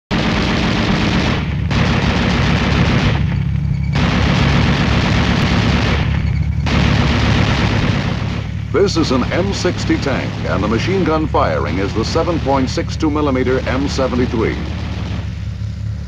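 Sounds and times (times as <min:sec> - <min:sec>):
machine gun firing automatic bursts: 0:00.1 - 0:15.6
steady low drone: 0:00.1 - 0:16.0.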